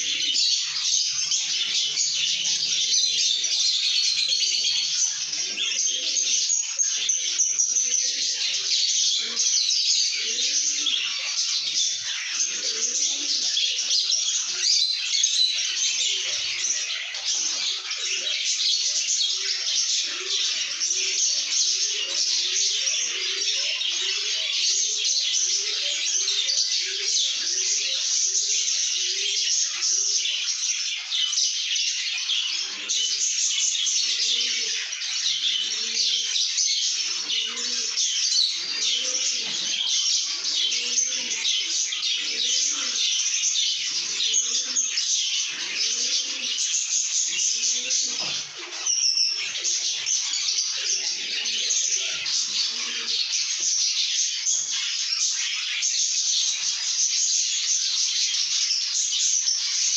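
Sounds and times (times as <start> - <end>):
lovebirds chattering and chirping: 0.0 - 59.9.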